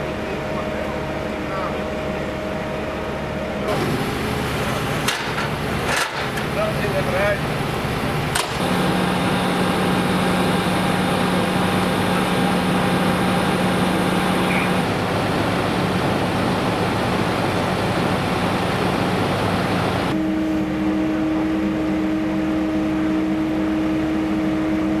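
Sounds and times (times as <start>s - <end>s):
vehicle engine hum: 0.0s - 21.9s.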